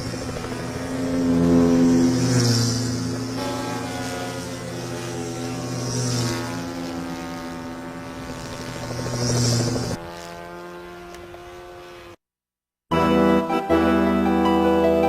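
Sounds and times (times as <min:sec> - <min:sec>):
model aircraft engine buzzing: 0:00.0 - 0:12.2.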